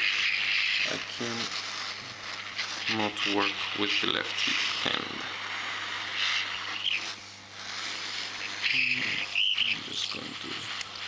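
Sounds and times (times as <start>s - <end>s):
hot-air gun hissing: 0.0s - 11.0s.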